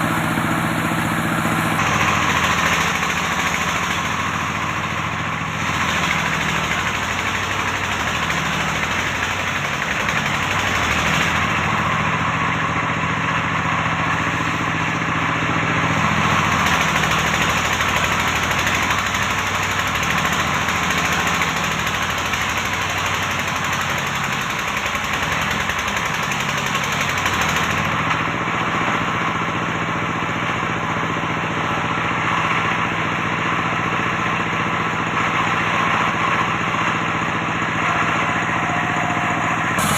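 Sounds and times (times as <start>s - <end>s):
engine-driven circular saw running: 0.0s - 39.9s.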